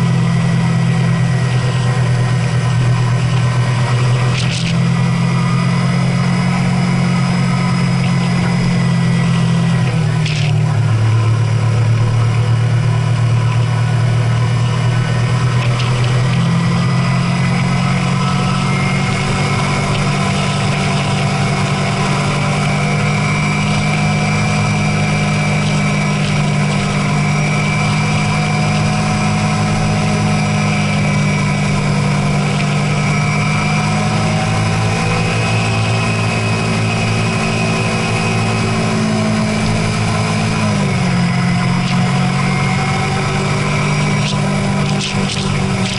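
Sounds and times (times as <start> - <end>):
car engine running: 0.0 - 45.9.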